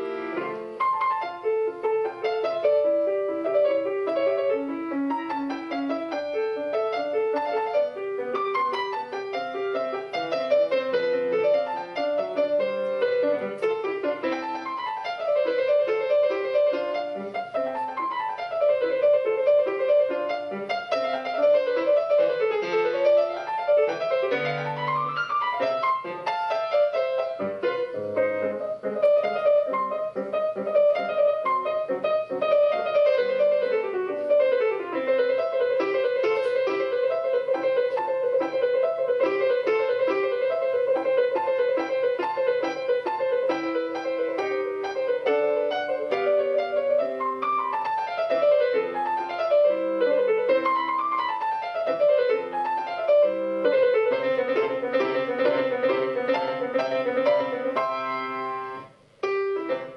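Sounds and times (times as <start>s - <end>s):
solo piano music: 0.0s - 59.9s.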